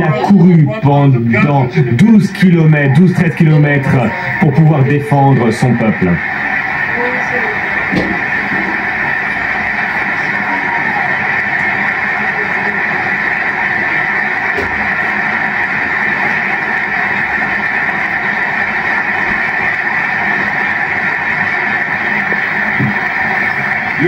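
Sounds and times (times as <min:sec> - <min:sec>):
audience applause through tv speaker: 0:00.0 - 0:24.0.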